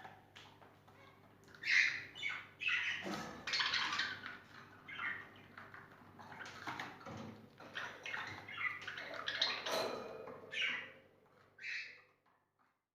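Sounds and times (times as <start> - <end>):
small birds chirping and squawking: 0.0 - 12.3.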